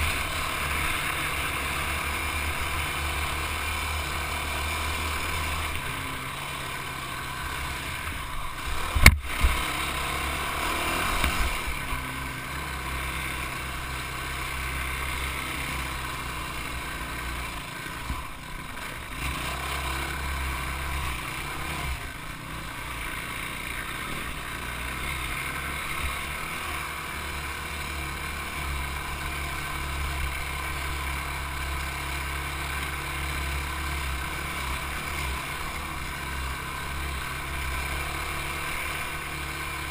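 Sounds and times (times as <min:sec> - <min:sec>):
quad engine rumbling: 0:00.0 - 0:39.9.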